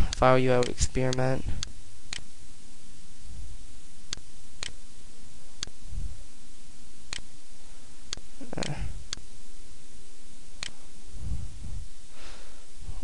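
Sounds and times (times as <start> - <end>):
microphone hiss: 0.0 - 13.0.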